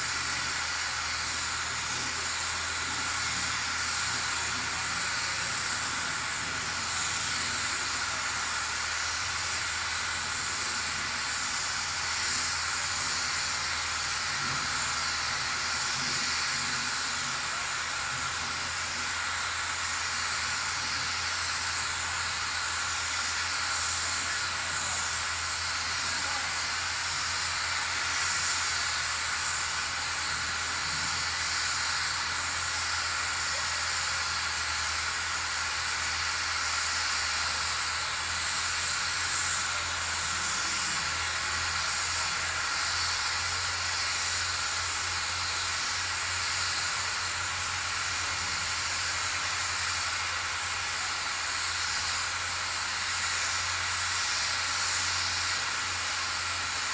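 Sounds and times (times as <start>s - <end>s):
steam locomotive venting steam: 0.0s - 56.9s.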